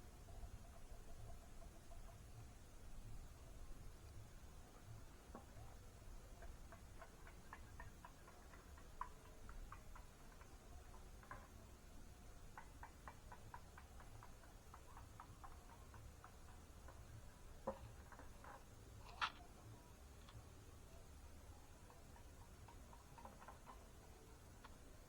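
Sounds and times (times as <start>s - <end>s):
faint small clicks and ticks: 0.1s - 25.0s.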